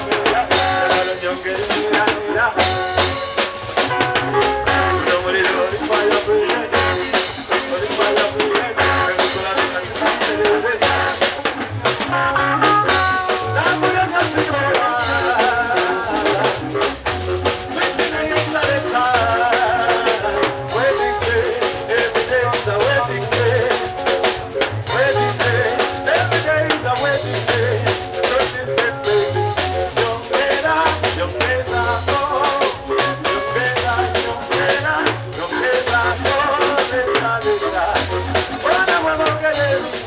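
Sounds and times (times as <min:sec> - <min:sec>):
bass line: 0:00.0 - 0:40.0
drum kit beat with rimshots: 0:00.0 - 0:40.0
man singing into microphone: 0:00.0 - 0:40.0.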